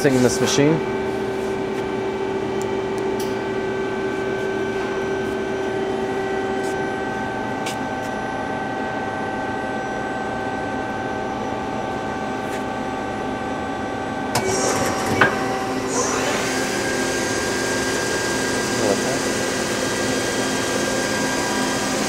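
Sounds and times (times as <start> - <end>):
lathe machine hum with tones: 0.7 - 22.0.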